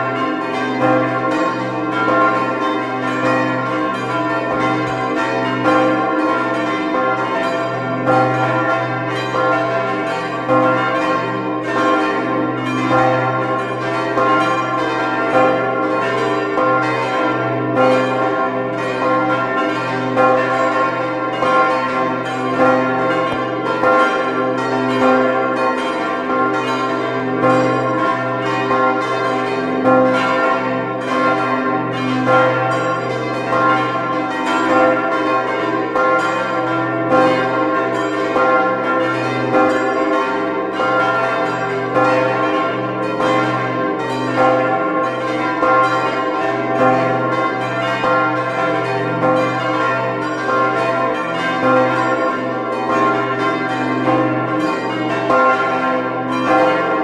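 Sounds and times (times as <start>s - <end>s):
church bells pealing: 0.0s - 57.0s.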